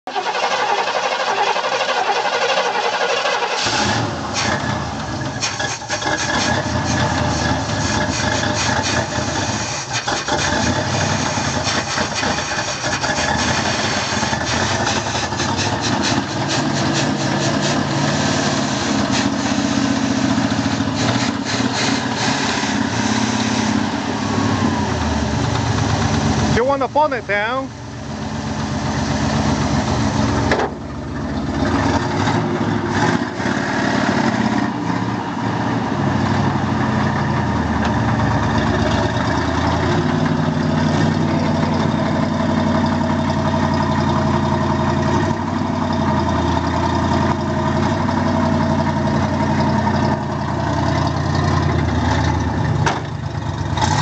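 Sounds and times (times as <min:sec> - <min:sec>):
car engine starting and running: 0:00.0 - 0:54.0.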